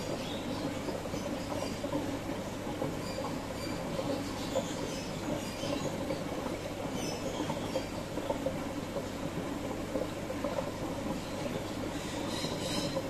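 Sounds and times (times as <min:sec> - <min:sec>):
aquarium water bubbling: 0:00.0 - 0:13.0.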